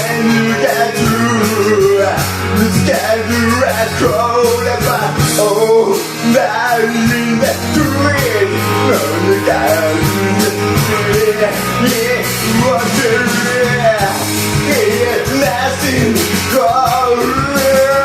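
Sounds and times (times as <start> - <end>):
guitar: 0.0 - 18.0
person singing: 0.0 - 18.0
steady drum beat: 0.0 - 18.0.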